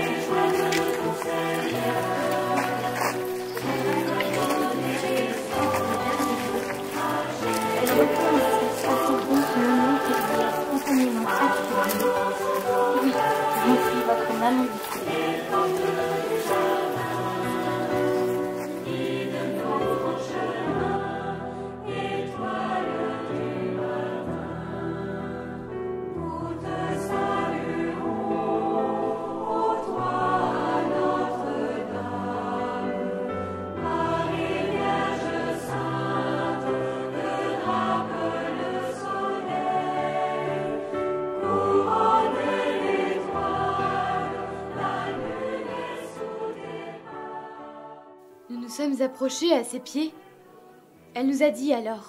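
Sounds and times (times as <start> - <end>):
choir singing: 0.0 - 51.2.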